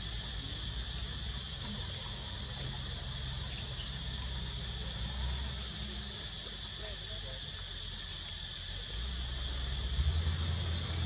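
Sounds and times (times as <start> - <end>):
insects buzzing: 0.0 - 11.0
low steady rumble: 0.0 - 11.0.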